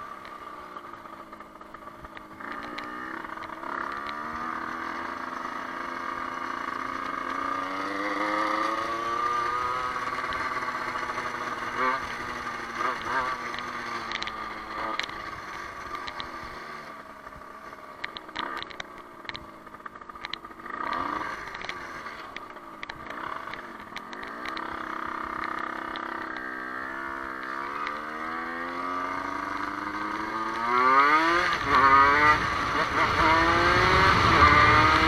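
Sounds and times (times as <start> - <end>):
small motorcycle engine: 0.0 - 35.0.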